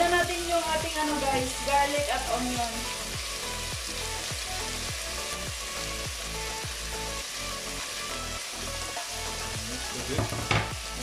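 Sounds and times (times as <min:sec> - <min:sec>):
meat sizzling in a pot: 0:00.0 - 0:11.0.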